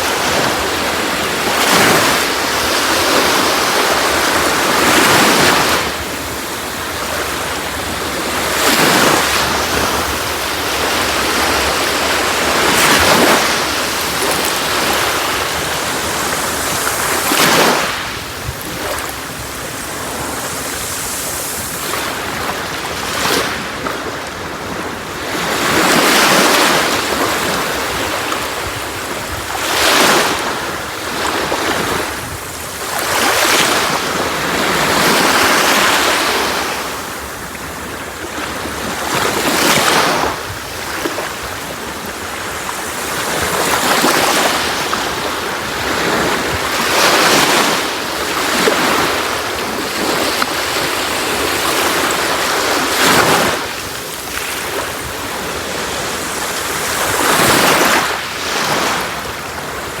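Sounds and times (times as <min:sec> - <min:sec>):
sea waves breaking on shore: 0:00.0 - 1:00.0.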